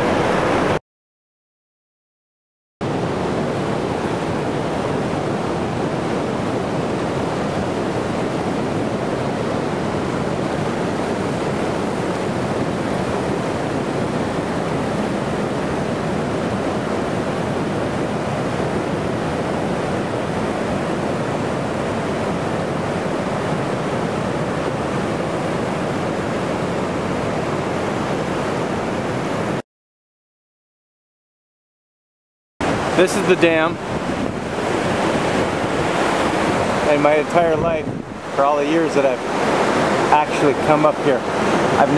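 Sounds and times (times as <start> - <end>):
river rushing through rapids: 2.8 - 29.6, 32.6 - 41.9.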